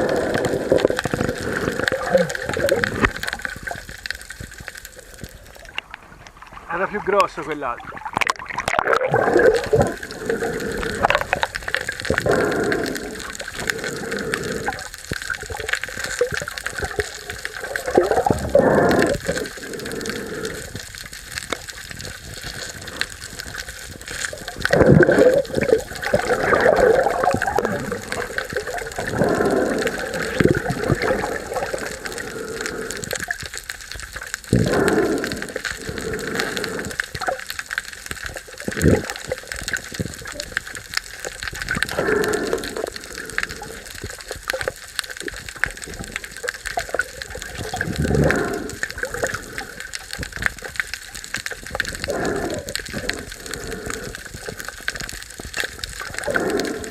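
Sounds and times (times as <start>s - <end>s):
seawater rushing and gurgling: 0.0s - 56.9s.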